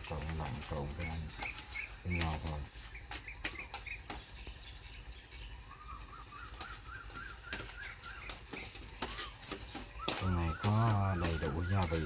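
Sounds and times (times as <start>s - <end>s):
bird calling wavering notes: 0.0s - 12.0s.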